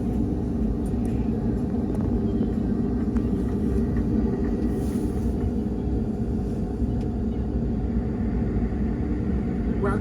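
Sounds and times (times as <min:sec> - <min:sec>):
airliner cabin engine hum: 0:00.0 - 0:10.0.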